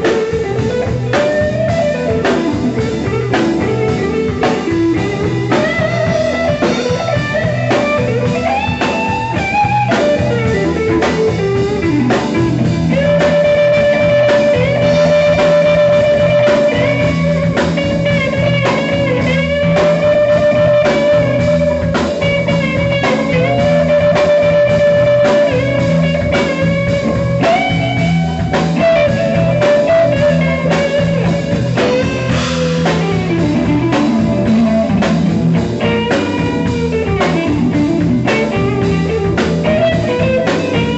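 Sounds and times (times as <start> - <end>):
electric guitar bent notes: 0.0 - 40.9
live blues band: 0.0 - 40.9.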